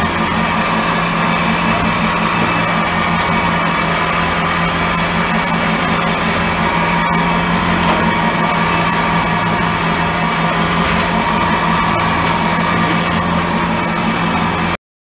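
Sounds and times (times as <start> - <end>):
boat engine droning: 0.0 - 14.8
water rushing along hull: 0.0 - 14.8.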